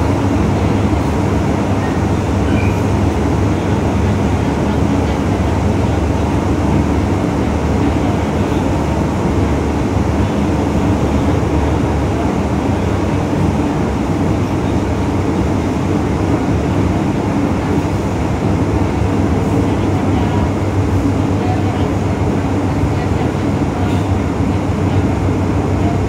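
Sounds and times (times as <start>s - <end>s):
train rumbling through tunnel: 0.0s - 26.0s.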